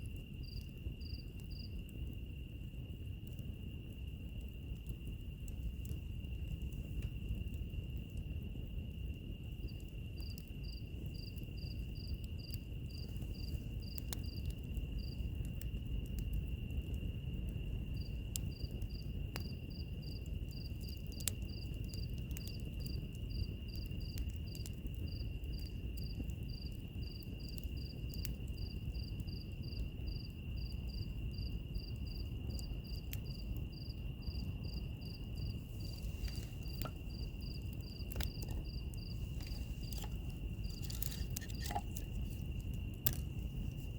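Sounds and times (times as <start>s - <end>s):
wood fire crackling and popping: 0.0s - 43.9s
insect chirping: 0.1s - 2.7s, 3.6s - 43.9s.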